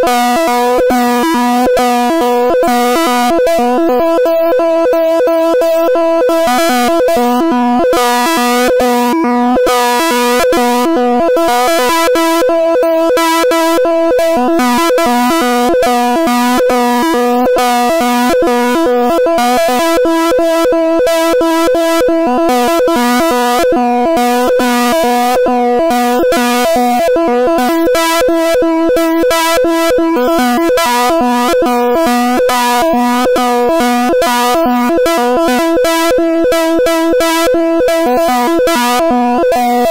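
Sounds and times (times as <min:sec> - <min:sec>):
buzzy synthesizer-like chord: 0:00.0 - 0:39.9.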